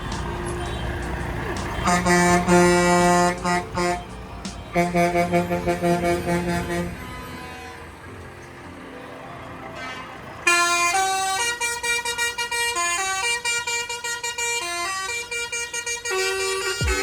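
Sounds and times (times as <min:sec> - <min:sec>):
street background noise: 0:00.0 - 0:17.0
buzzy horn-like tune: 0:00.4 - 0:08.1, 0:09.8 - 0:17.0.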